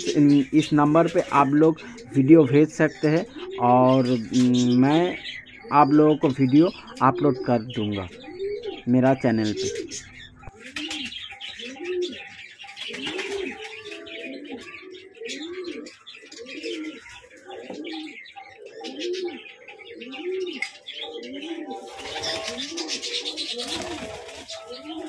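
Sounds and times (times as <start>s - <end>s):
pigeons cooing: 0.0s - 25.0s
small birds chirping: 0.0s - 25.0s.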